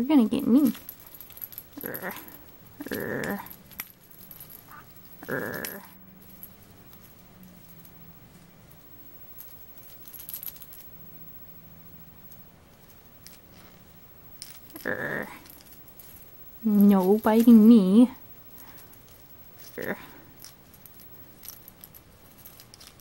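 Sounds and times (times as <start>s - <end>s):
small bell jingling: 0.1s - 23.0s.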